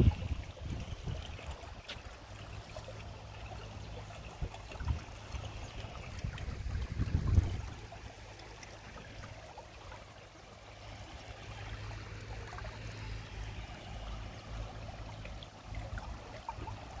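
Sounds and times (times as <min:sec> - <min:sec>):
stream trickling over stones: 0:00.0 - 0:17.0.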